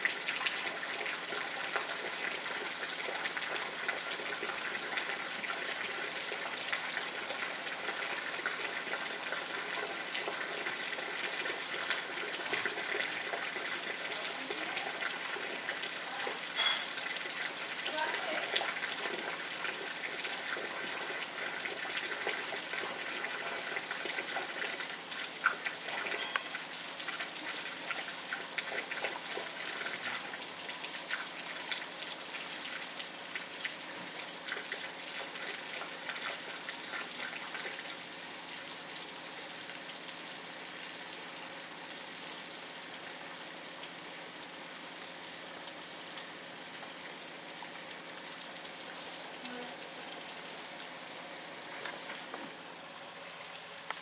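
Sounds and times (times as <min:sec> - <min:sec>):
sharp water drips: 0:00.0 - 0:49.3.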